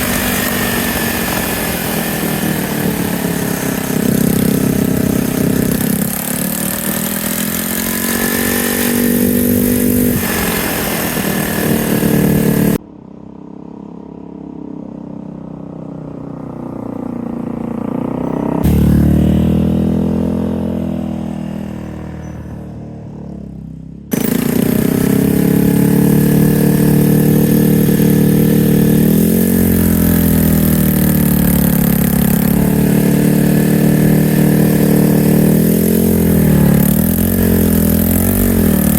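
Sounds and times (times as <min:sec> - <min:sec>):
motorcycle engine revving: 0:00.0 - 0:38.9
motorcycle passing by: 0:00.0 - 0:38.9.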